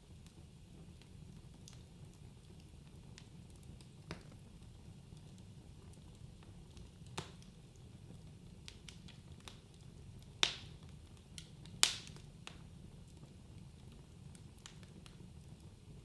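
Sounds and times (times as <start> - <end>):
wood fire crackling: 0.0 - 16.0
fire pops: 0.1 - 16.0.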